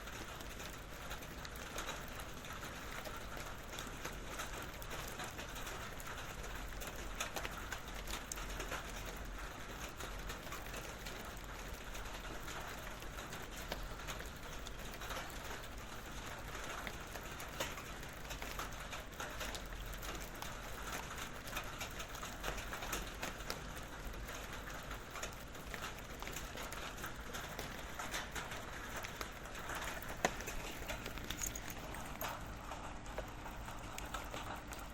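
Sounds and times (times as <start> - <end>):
rain on a metal barrel: 0.0 - 34.9.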